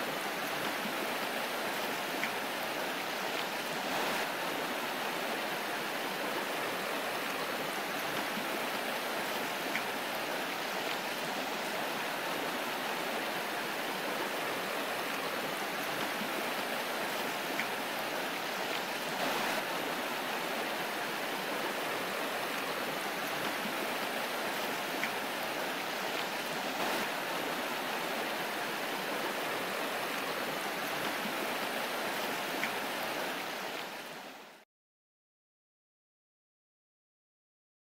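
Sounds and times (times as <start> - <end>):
river water rushing: 0.0 - 34.6.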